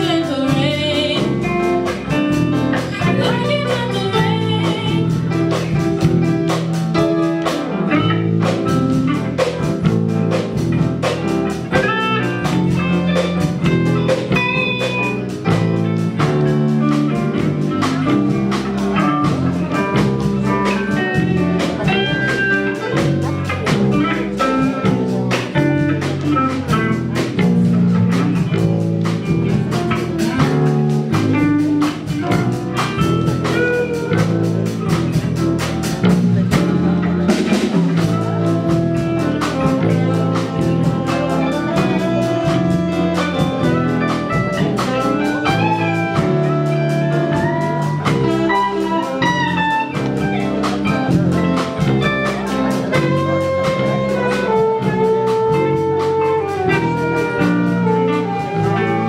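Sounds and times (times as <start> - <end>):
band playing instrumental: 0.0 - 59.0
drum kit beat: 0.0 - 59.0
guitar: 0.0 - 59.0.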